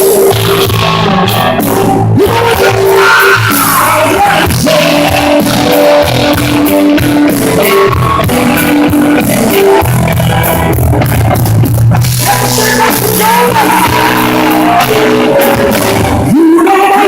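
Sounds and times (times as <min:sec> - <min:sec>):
rock band playing loudly: 0:00.0 - 0:17.0.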